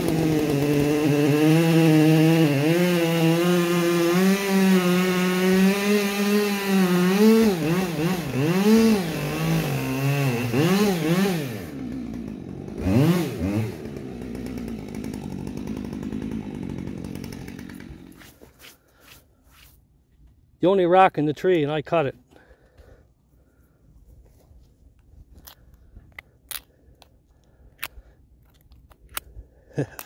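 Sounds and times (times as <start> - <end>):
chainsaw cutting logs: 0.0 - 19.8, 22.3 - 23.7, 25.3 - 30.0.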